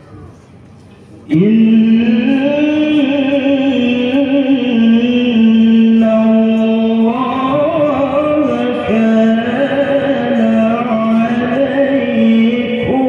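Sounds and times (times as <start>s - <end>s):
man reciting melodically into microphone: 1.3s - 13.0s.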